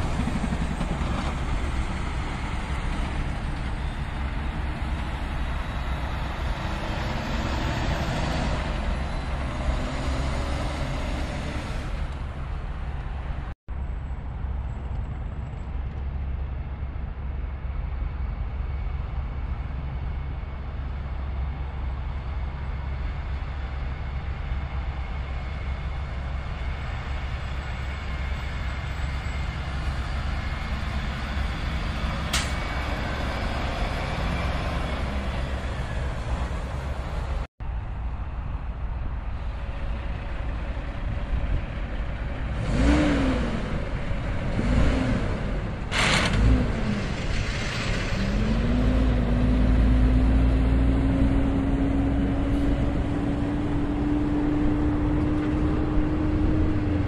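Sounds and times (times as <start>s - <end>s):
highway traffic tyre noise: 0.0s - 57.0s
truck diesel engines: 0.0s - 57.0s.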